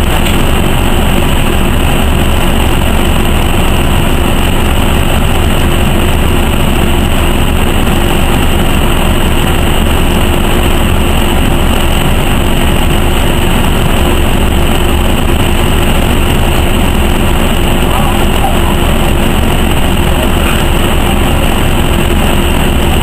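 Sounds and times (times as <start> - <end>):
bus engine idling: 0.0 - 23.0
constant hum: 0.0 - 23.0.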